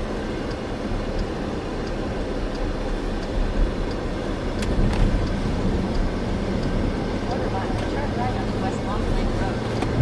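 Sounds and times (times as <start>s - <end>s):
low rumble: 0.0s - 10.0s
faint high tick: 0.4s - 8.8s.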